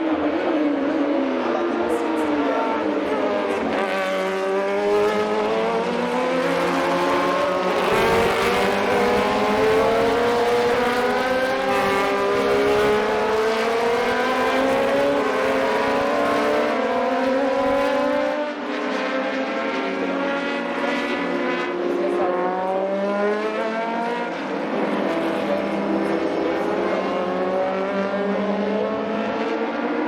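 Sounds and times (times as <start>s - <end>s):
racing car engines at high revs: 0.0s - 30.0s.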